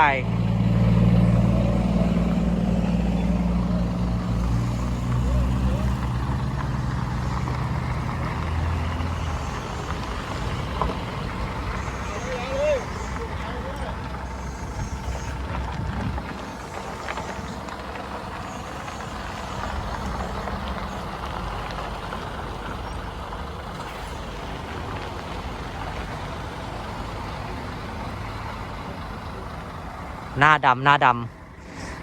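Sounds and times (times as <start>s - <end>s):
bus diesel engine rumbling: 0.0s - 32.0s.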